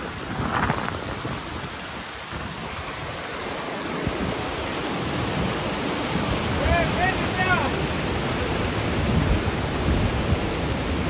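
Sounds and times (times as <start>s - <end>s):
meltwater rushing: 0.0s - 11.0s.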